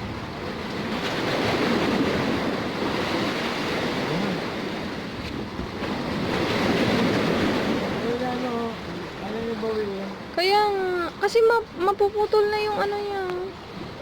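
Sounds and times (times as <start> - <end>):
sea surf washing in: 0.0 - 14.0
wind buffeting microphone: 0.0 - 14.0.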